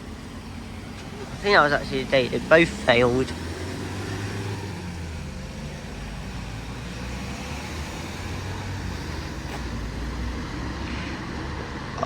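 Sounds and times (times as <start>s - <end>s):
bus engine rumbling: 0.0s - 12.0s
road traffic: 0.0s - 12.0s.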